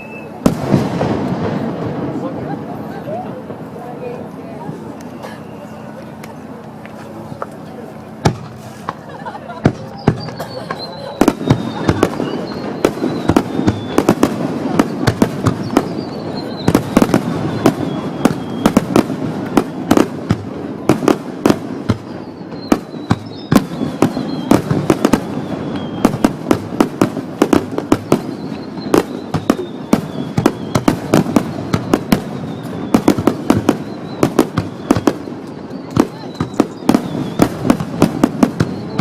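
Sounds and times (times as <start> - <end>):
falling firework whistle: 0.0 - 2.3, 9.7 - 39.0
fireworks bangs and crackles: 0.0 - 39.0
fireworks rumble: 0.0 - 39.0.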